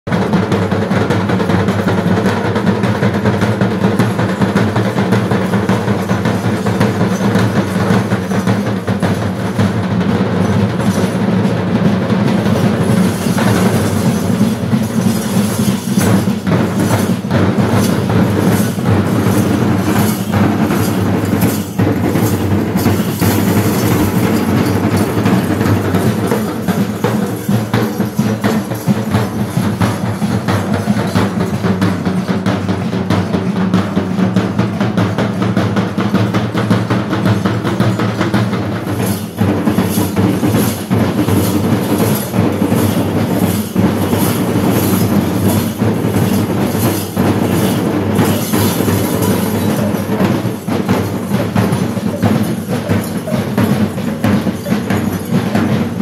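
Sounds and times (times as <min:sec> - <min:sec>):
rapid drumming: 0:00.1 - 0:56.0.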